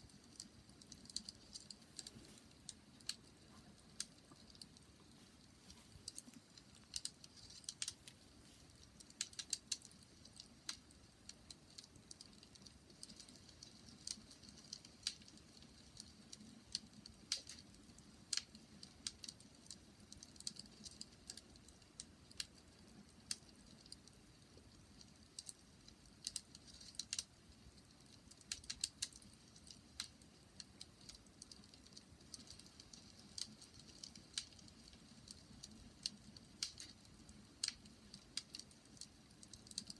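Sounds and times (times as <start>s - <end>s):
low rumble of burning: 0.0s - 39.9s
wood fire crackling: 0.0s - 39.9s.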